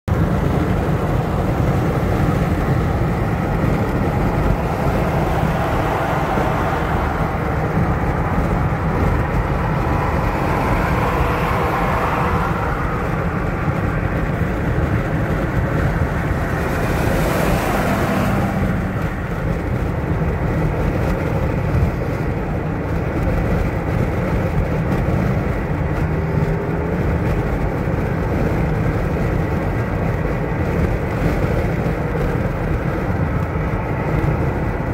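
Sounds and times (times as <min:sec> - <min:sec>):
car road and engine noise: 0:00.0 - 0:34.9.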